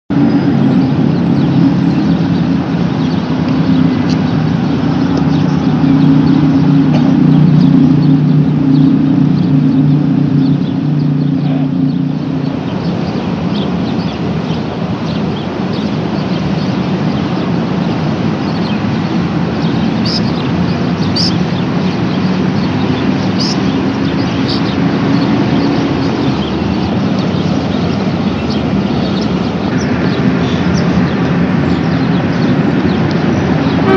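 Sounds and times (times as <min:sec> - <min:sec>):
heavy engine drone: 0:00.1 - 0:33.9
road traffic hum: 0:00.1 - 0:33.9.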